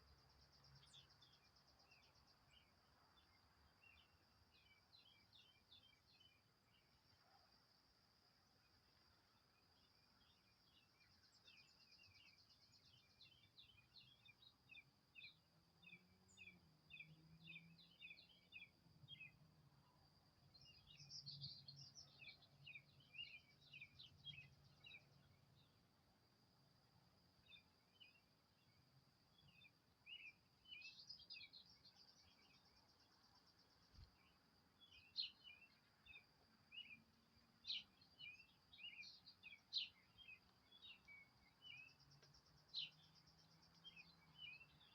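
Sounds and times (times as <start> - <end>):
small birds chirping: 0.2 - 7.5, 9.4 - 19.4, 20.4 - 25.8, 27.4 - 44.9.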